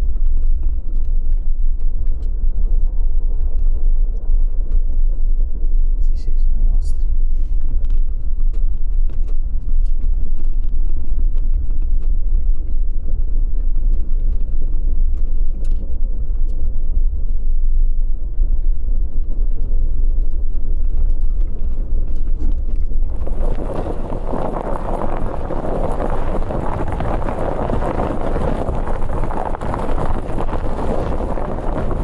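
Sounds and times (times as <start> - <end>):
vehicle rumbling: 0.0 - 32.0.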